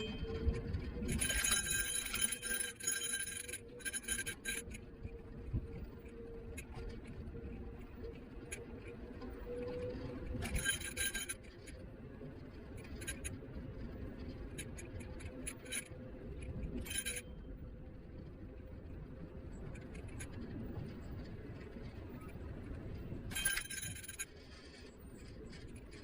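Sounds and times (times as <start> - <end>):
electric scooter wheels rumbling: 0.0 - 26.0.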